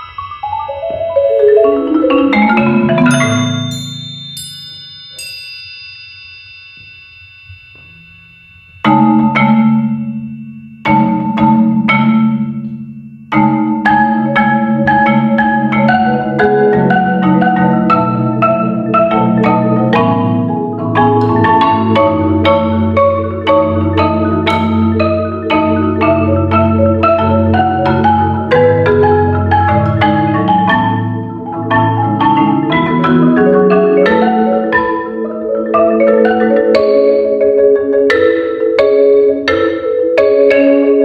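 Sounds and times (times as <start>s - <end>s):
fast marimba run: 0.0s - 6.0s, 8.8s - 41.0s
marimba chords ringing: 0.0s - 41.0s.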